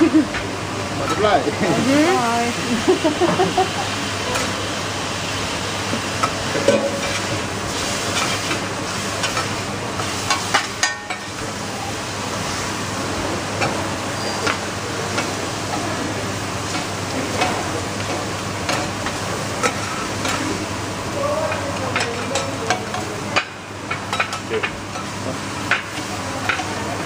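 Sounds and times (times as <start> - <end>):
food sizzling on a griddle: 0.1 - 27.0.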